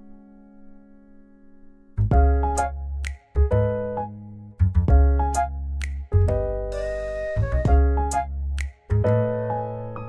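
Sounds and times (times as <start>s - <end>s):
instrumental keyboard music: 0.0s - 10.0s.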